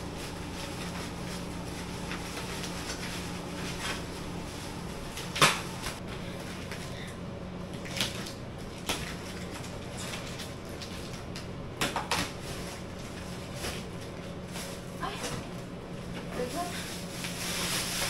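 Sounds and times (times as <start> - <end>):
plastic wrapping rustling: 0.0 - 18.0
steady low hum: 0.0 - 18.0.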